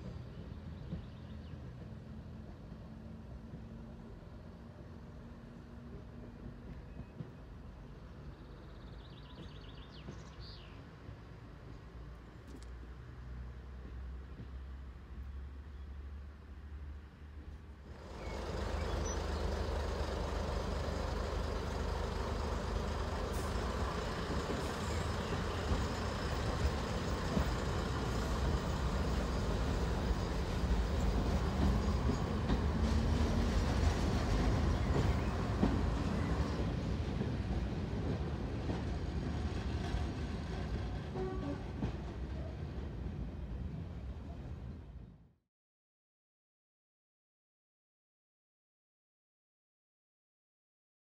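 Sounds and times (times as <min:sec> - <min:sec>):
train engine and wheels rumbling: 0:00.0 - 0:45.4.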